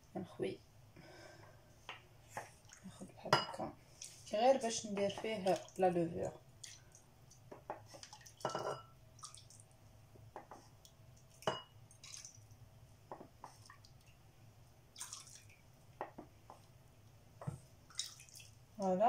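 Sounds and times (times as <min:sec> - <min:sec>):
liquid dripping and splashing: 0:02.3 - 0:03.2, 0:03.8 - 0:14.3, 0:14.9 - 0:18.8.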